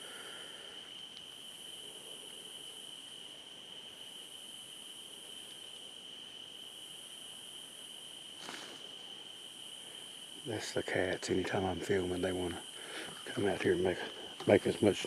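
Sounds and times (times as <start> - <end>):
cricket trill: 0.0 - 15.0
faint high insect hiss: 0.0 - 15.0.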